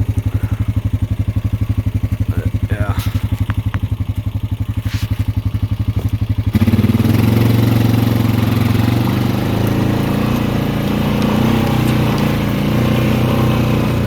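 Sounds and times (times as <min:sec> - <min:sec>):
atv engine: 0:00.0 - 0:14.0.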